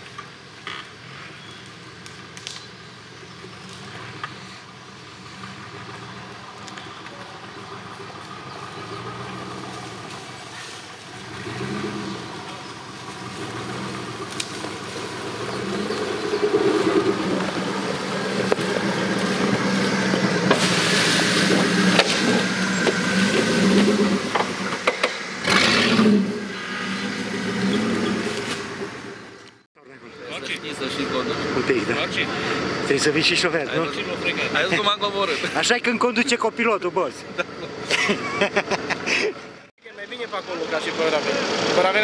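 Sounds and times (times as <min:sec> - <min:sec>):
rush of tyre and dirt noise: 0:00.0 - 0:42.0
buggy engine revving: 0:00.6 - 0:42.0.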